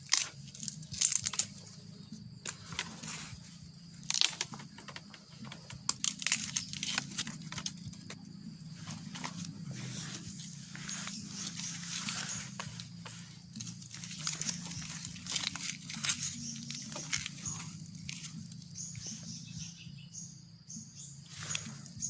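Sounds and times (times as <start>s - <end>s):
dry leaves and twigs crackling underfoot: 0.0s - 20.1s, 20.7s - 22.0s
steady low hum: 0.0s - 22.0s.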